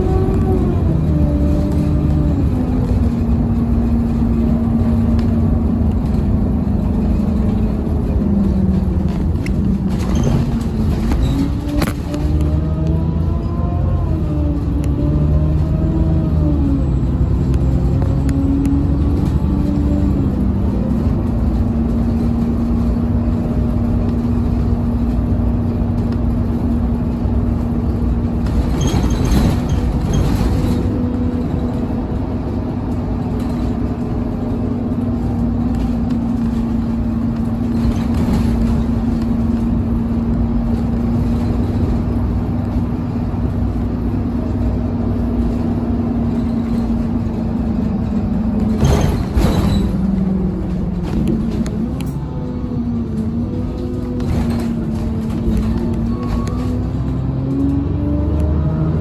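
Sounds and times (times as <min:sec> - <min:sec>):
bus engine humming: 0:00.0 - 0:59.0
road noise: 0:00.0 - 0:59.0.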